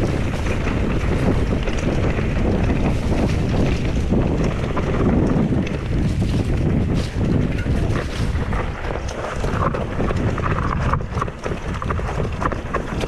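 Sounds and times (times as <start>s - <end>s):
bike rattling: 0.0s - 13.0s
tyres rumbling on dirt: 0.0s - 13.0s
wind buffeting microphone: 0.0s - 13.0s.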